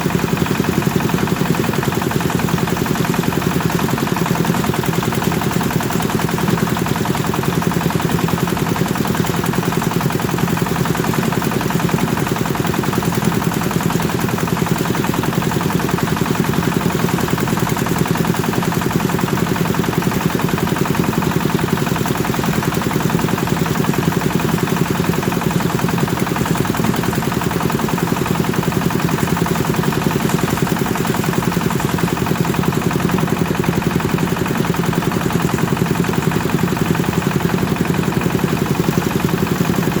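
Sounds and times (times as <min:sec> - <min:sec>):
thresher engine chugging: 0:00.0 - 0:40.0.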